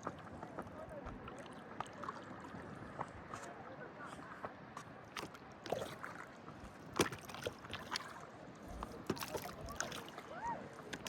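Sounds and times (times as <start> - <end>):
water lapping and splashing: 0.0 - 11.0.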